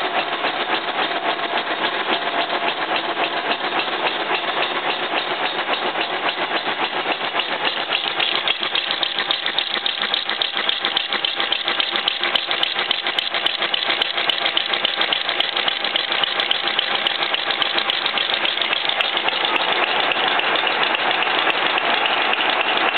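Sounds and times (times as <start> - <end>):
boring machine cutting metal: 3.0 - 22.9.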